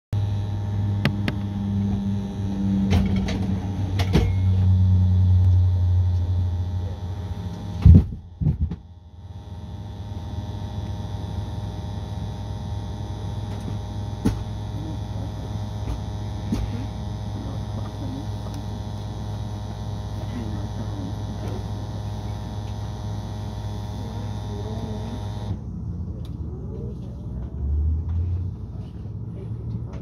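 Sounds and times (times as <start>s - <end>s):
aircraft cabin drone: 0.2s - 30.0s.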